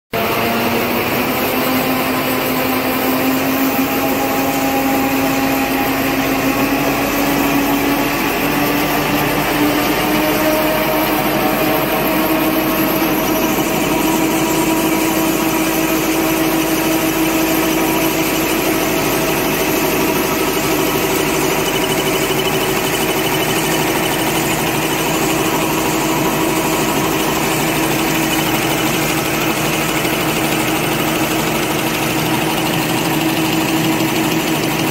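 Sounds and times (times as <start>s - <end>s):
motor hum: 0.2s - 34.9s.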